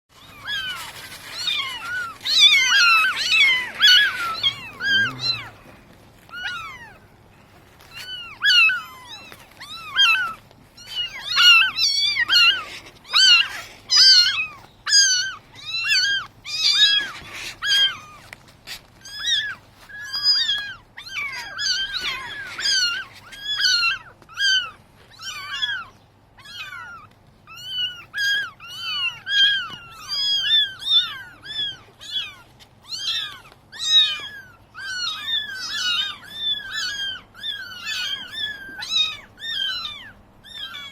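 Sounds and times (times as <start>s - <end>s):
gulls mewing calls: 0.1s - 18.4s, 19.0s - 40.9s.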